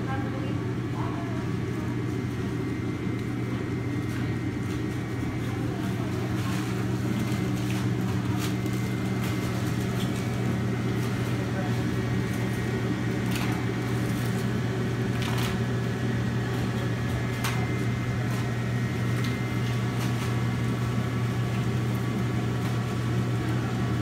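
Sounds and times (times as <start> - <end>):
gas burner humming: 0.0 - 24.0.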